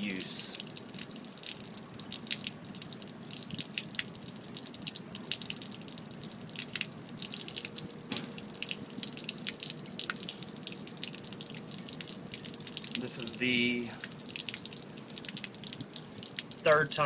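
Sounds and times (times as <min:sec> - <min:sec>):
water trickling onto concrete: 0:00.0 - 0:17.0.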